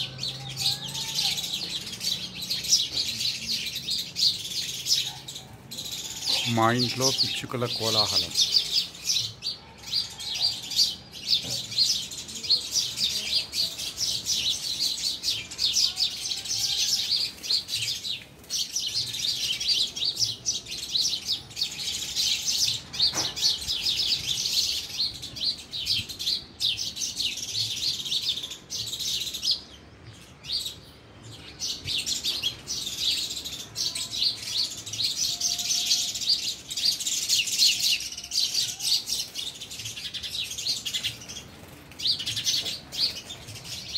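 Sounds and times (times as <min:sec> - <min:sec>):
flock of sparrows chirping: 0:00.0 - 0:43.9.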